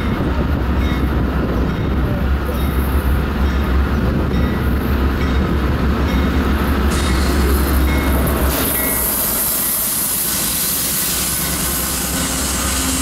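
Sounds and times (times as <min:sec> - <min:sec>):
locomotive engine rumble: 0:00.0 - 0:13.0
passing train noise: 0:00.0 - 0:13.0.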